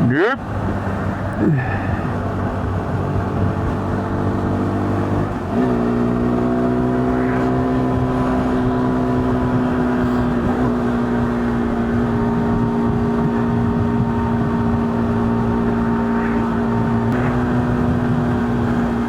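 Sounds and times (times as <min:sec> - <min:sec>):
wind noise: 0:00.0 - 0:19.0
motorcycle engine running: 0:00.1 - 0:19.0.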